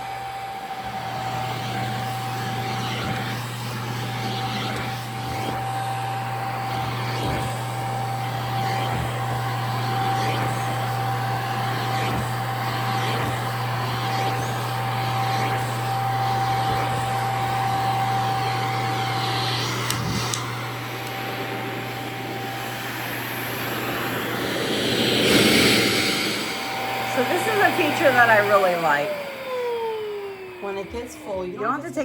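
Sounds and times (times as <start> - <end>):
vacuum motor humming and whining: 0.0 - 32.0.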